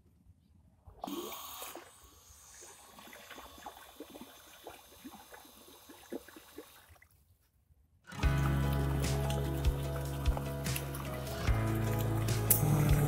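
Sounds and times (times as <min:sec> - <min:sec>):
water pump whine: 0:01.0 - 0:06.7, 0:08.2 - 0:13.0
water jet splashing: 0:01.0 - 0:07.0, 0:08.2 - 0:13.0.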